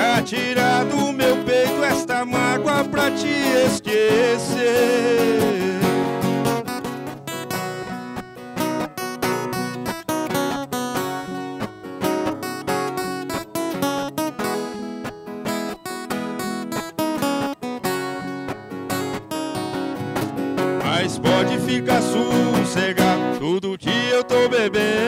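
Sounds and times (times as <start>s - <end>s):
acoustic guitars playing: 0.0s - 25.0s.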